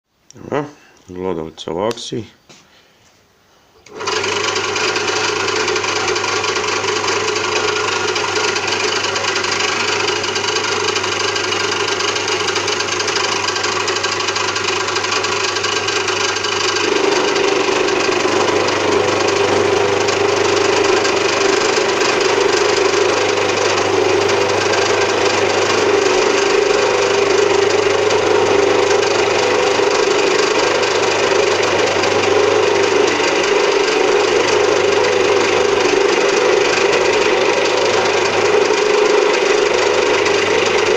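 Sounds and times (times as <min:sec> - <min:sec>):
motor hum: 0:03.8 - 0:40.9
milling machine cutting metal: 0:03.9 - 0:40.9.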